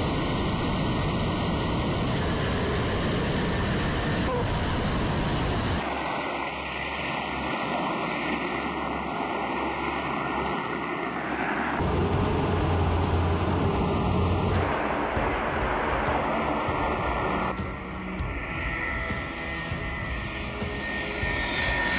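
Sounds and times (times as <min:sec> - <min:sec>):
jet engines roaring: 0:00.0 - 0:21.9.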